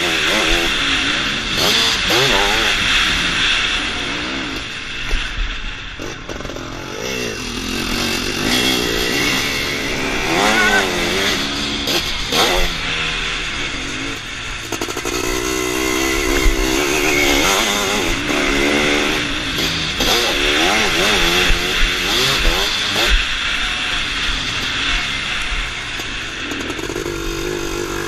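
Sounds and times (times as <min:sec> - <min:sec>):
engine revving up and down: 0:00.0 - 0:05.3, 0:06.0 - 0:28.0.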